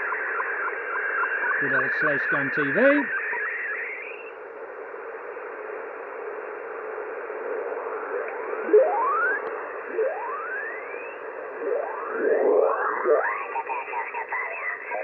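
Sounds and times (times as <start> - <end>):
rising radio whistles: 0.0 - 5.6, 6.2 - 15.0
radio static hiss: 0.0 - 15.0.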